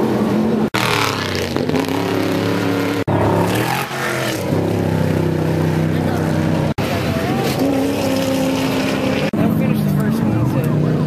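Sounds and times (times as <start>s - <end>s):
race vehicle engine revving: 0.0s - 11.0s.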